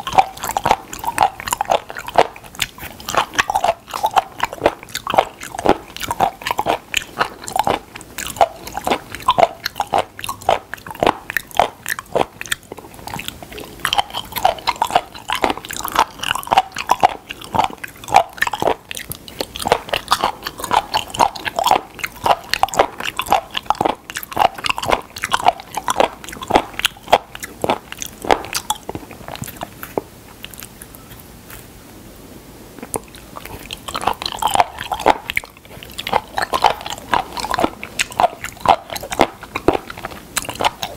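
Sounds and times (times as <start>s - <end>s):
wet crunchy chewing: 0.0s - 31.8s, 32.8s - 40.9s.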